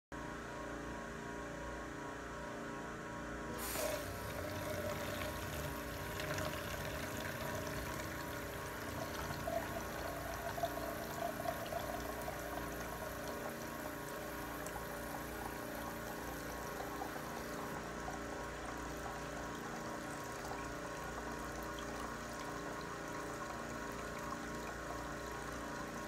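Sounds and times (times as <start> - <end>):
low steady hum: 0.2 - 26.0
water pouring into plastic beaker: 3.6 - 26.0.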